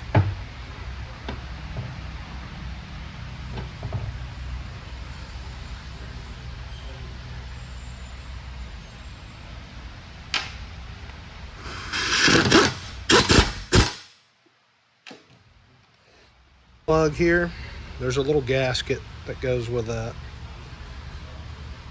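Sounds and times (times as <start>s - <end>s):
low shop hum: 0.0s - 14.2s, 15.1s - 21.9s.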